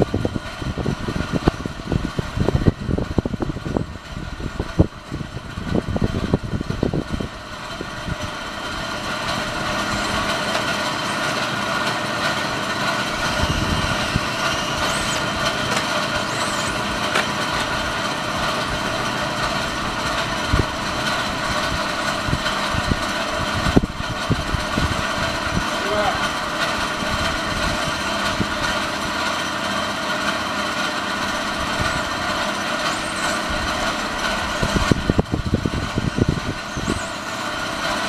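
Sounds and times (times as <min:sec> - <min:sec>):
low rumbles and thumps: 0:00.0 - 0:11.0, 0:12.2 - 0:29.1, 0:33.5 - 0:37.0
mechanical drone: 0:00.0 - 0:38.0.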